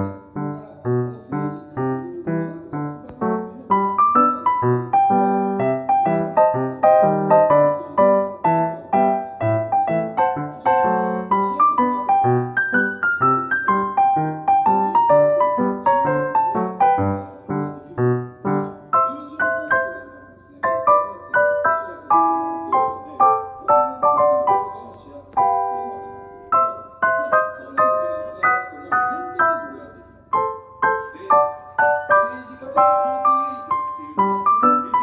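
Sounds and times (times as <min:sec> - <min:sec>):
gentle piano music: 0:00.0 - 0:35.0.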